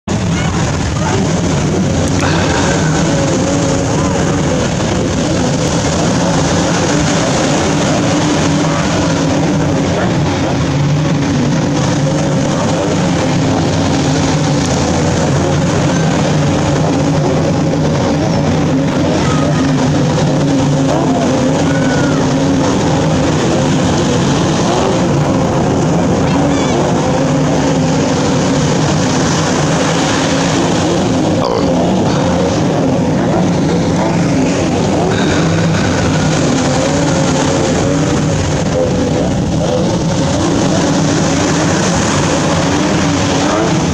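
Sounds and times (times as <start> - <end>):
boat outboard motors racing: 0.0 - 43.9.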